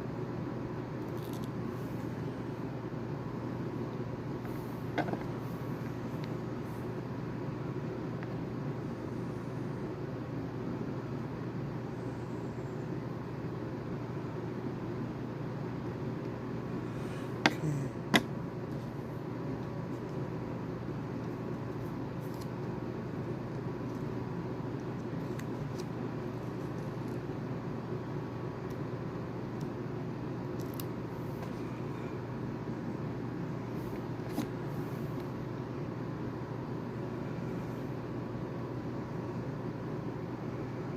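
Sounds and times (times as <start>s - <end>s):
low room hum: 0.0s - 40.9s.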